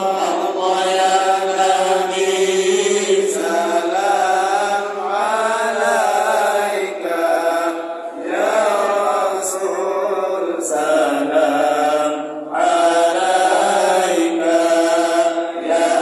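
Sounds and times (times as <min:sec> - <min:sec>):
man chanting a prayer: 0:00.0 - 0:16.0.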